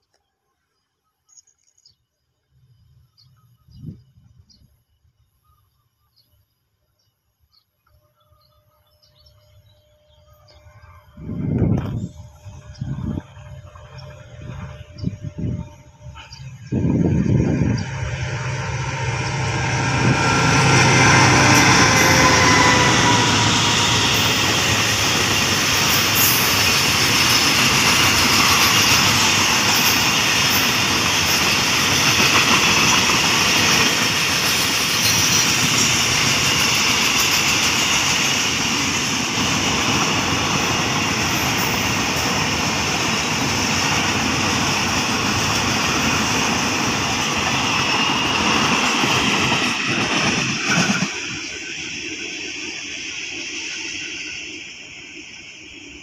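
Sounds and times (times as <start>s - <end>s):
train wheels rolling on rails: 8.4s - 56.0s
diesel locomotive engine passing: 8.8s - 56.0s.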